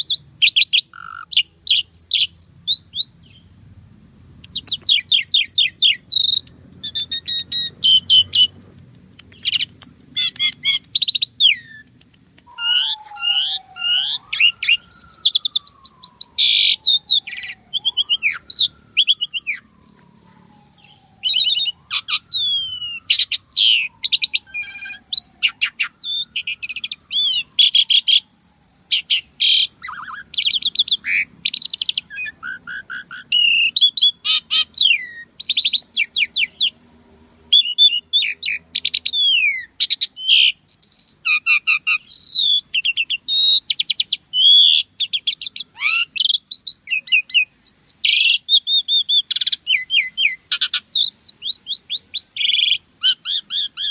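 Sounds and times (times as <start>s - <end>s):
starling singing: 0.0s - 3.6s, 4.4s - 53.9s.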